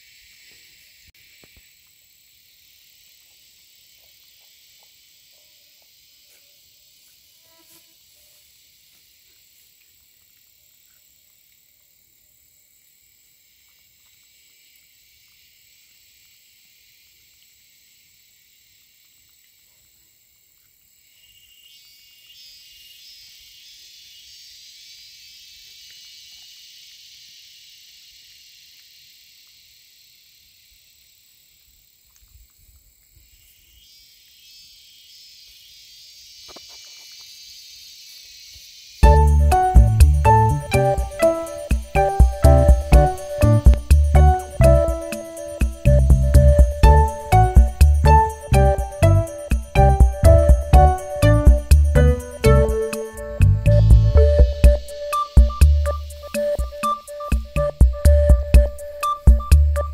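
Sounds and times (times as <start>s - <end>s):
insects chorus hissing: 0.0s - 59.9s.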